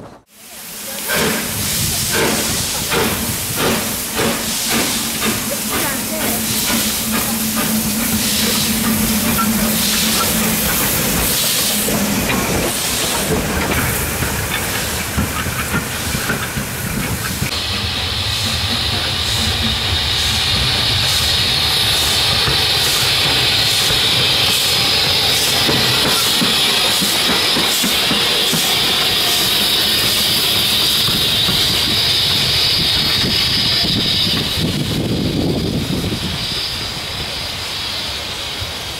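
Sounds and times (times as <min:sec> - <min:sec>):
steam locomotive hissing: 0:00.2 - 0:38.9.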